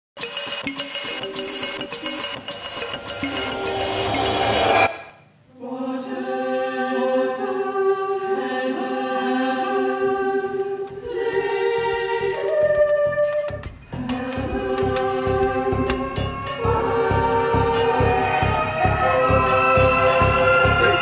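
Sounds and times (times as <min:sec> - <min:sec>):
choir singing: 0:02.8 - 0:21.0.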